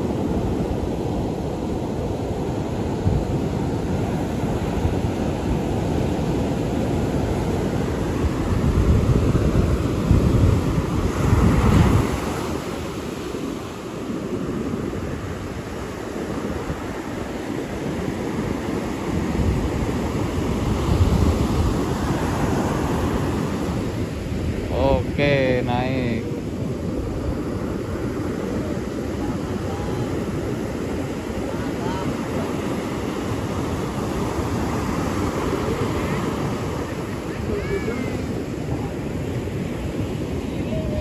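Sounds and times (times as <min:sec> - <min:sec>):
surf breaking on beach: 0:00.0 - 0:41.0
wind buffeting microphone: 0:00.0 - 0:41.0.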